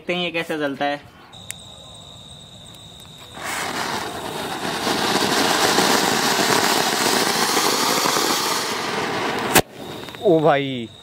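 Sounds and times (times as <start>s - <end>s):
fountain firework hissing: 1.6s - 11.0s.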